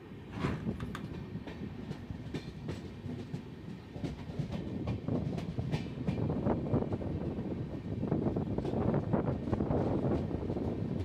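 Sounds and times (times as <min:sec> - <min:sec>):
clicks and knocks of train: 0:00.0 - 0:11.0
train wheels rumbling on rails: 0:00.0 - 0:11.0.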